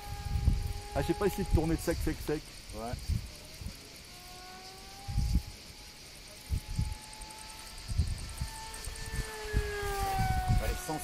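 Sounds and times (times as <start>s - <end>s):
model aircraft motor whine: 0.0s - 11.0s.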